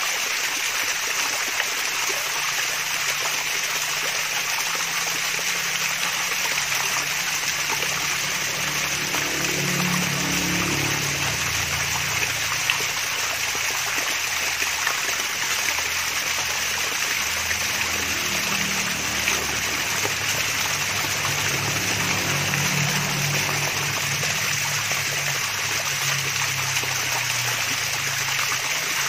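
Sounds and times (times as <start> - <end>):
small waterfall splashing: 0.0 - 29.0.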